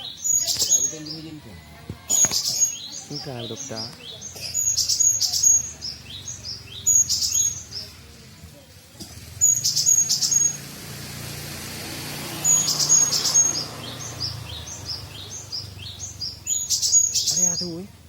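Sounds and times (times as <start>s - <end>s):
piercing high bird calls: 0.0s - 1.4s, 2.0s - 8.0s, 9.2s - 18.0s
songbirds chirping: 0.0s - 18.0s.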